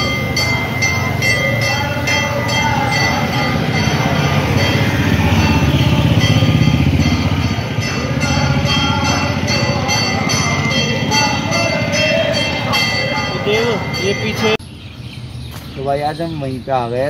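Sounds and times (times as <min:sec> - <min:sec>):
temple bells ringing: 0:00.0 - 0:14.6.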